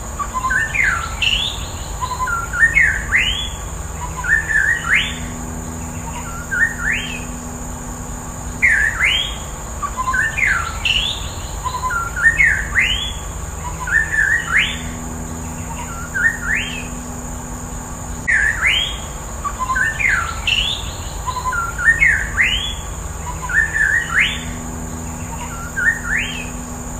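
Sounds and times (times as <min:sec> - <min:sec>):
bird singing whistled notes: 0:00.0 - 0:26.9
steady high hiss: 0:00.0 - 0:26.9.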